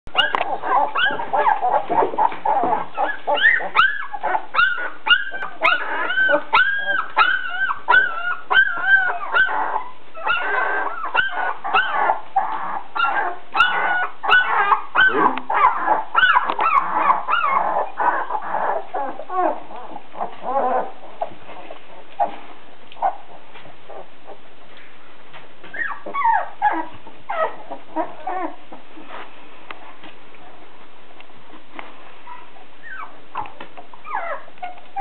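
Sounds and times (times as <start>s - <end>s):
puppies whimpering and squealing: 0.1s - 24.5s, 25.6s - 29.2s, 32.2s - 35.0s.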